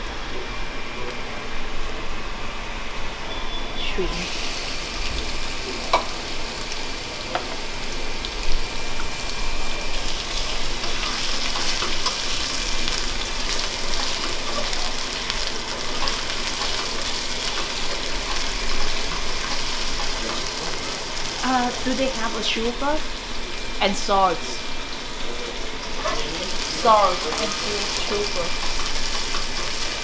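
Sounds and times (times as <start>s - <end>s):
shrimp sizzling in hot oil: 4.2s - 30.0s.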